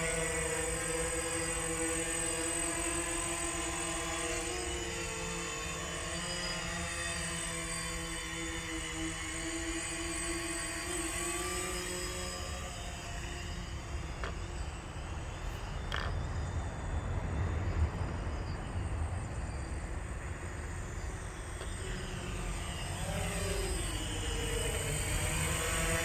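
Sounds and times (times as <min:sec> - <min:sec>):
drone propellers whirring: 0:00.0 - 0:26.0.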